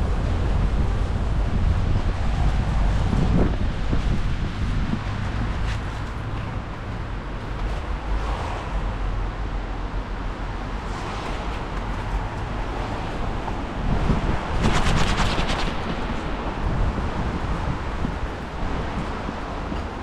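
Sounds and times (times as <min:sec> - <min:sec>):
cars passing on city road: 0:00.0 - 0:20.0.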